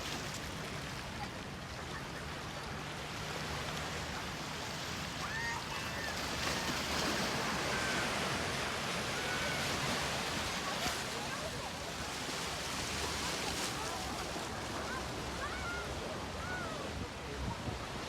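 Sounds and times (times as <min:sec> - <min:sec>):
ocean surf washing on beach: 0:00.0 - 0:18.0.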